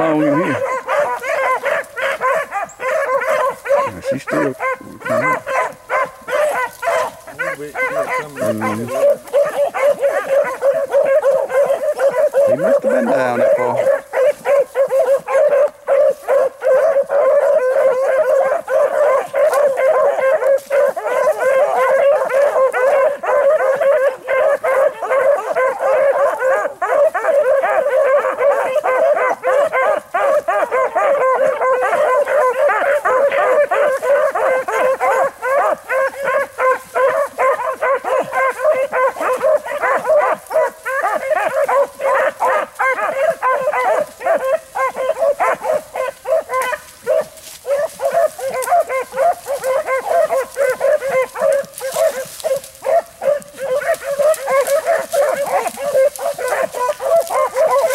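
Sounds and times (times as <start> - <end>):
pack of hounds baying: 0.0 - 57.9.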